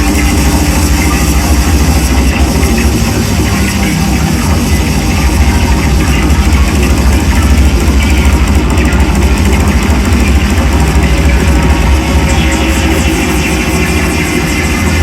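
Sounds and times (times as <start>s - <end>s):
distorted drone noise music: 0.0s - 15.0s
heavy low rumble: 0.0s - 15.0s.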